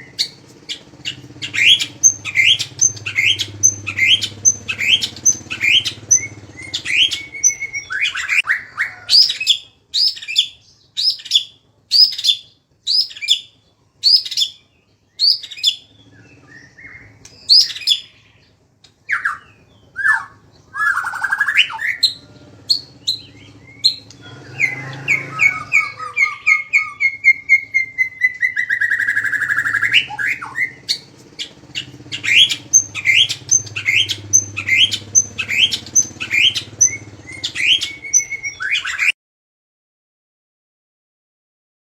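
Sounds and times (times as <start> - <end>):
songbird singing sharp notes: 0.0 - 8.5, 9.2 - 18.4, 19.1 - 39.1.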